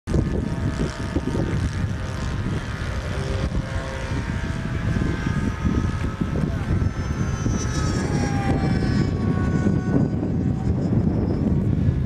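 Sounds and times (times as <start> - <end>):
model airplane engine droning: 0.1 - 12.0
wind buffeting microphone: 0.1 - 12.0.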